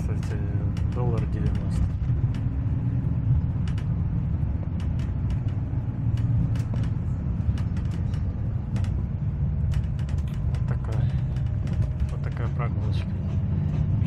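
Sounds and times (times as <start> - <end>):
light rattles and clicks: 0.0 - 14.0
road vehicle rumble: 0.0 - 14.0.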